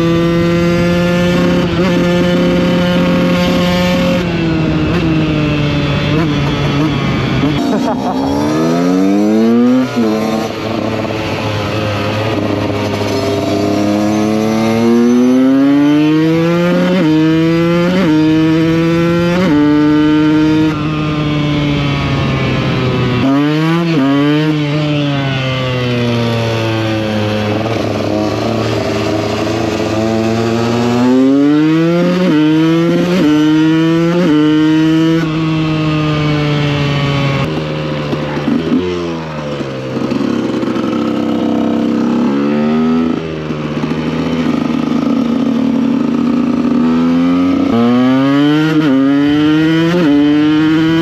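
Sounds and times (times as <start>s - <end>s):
motorcycle engine shifting gears: 0.0s - 51.0s.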